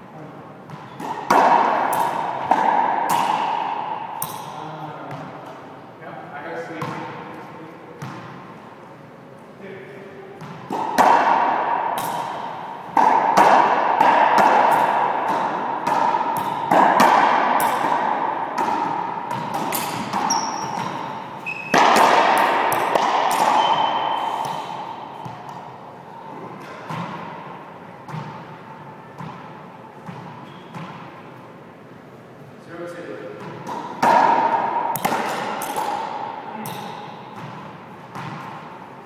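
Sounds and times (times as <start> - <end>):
racquetball hits echoing: 0.6 - 8.6, 10.2 - 31.4, 33.1 - 39.0.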